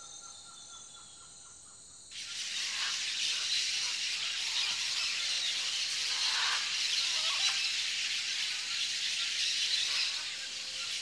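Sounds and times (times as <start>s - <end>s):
faint bird calls: 0.0s - 11.0s
high-pitched insect chorus: 0.0s - 11.0s.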